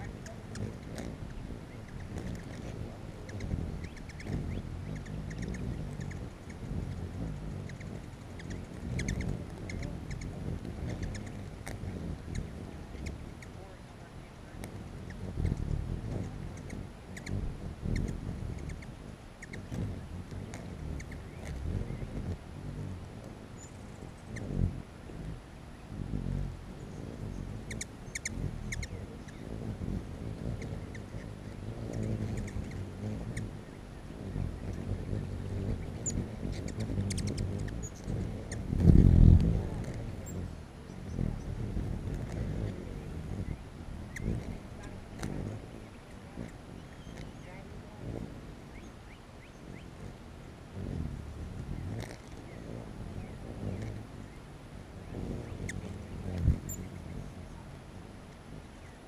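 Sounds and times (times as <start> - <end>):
hummingbird chip calls: 0.0 - 59.0
hummingbird wingbeats humming: 0.0 - 59.0.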